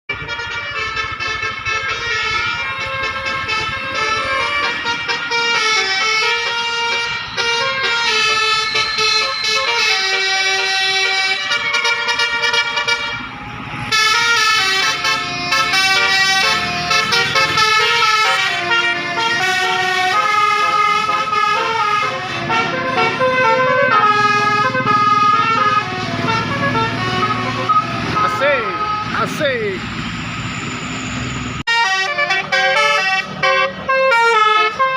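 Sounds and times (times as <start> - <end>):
bus air horn melody: 0.1 - 29.2, 31.7 - 34.9.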